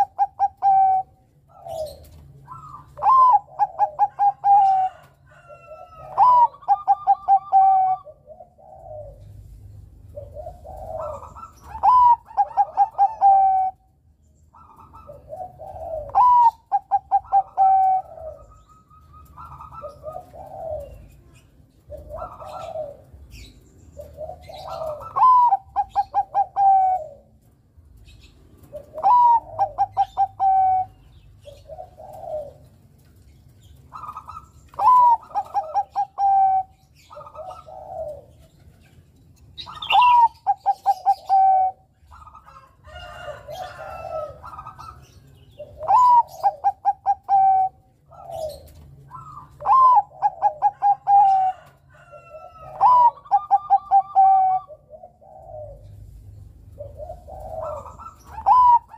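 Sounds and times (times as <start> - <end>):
dove cooing song: 0.0 - 58.9.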